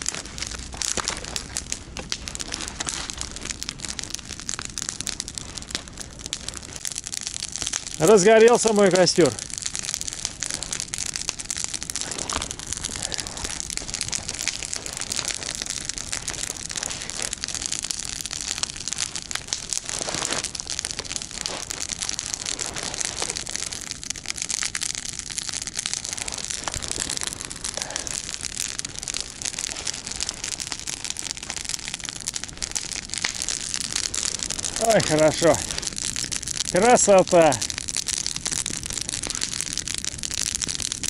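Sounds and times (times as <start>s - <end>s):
campfire crackling and snapping: 0.0s - 41.0s
fire hissing: 0.0s - 41.0s.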